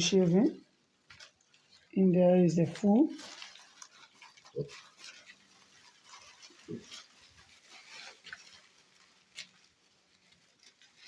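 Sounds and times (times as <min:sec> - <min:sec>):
scuffling in wood shavings: 0:01.2 - 0:11.0.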